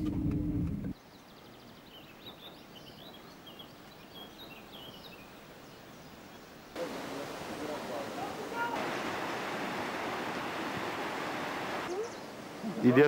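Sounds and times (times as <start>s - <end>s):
outdoor background noise: 0.0s - 13.0s
faint birdsong: 0.8s - 13.0s.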